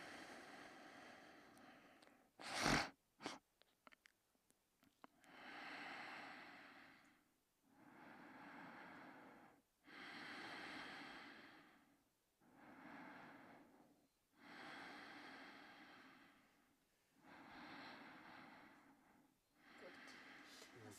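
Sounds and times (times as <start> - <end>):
quiet snoring breaths: 0.0 - 3.4, 5.0 - 20.9.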